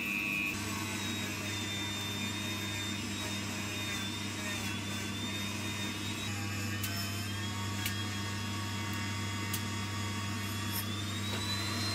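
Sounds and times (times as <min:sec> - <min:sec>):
rotary tool motor whine: 0:00.0 - 0:11.9.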